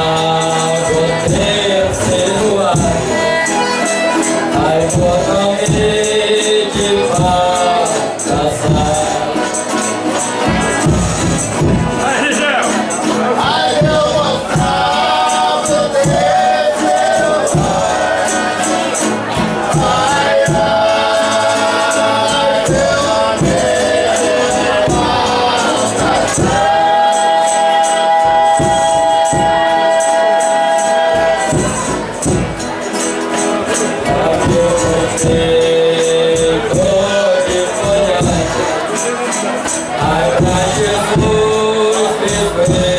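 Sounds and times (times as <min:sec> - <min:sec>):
tambourine beat: 0:00.0 - 0:42.9
voices singing in harmony: 0:00.0 - 0:42.9.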